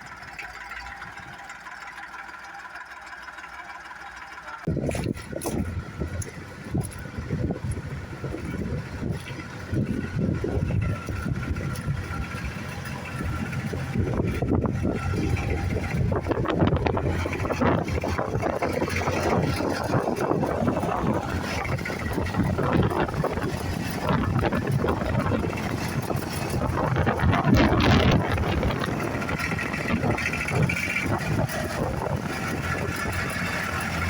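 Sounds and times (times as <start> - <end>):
tractor engine running: 0.0 - 34.0
wind buffeting microphone: 4.7 - 34.0.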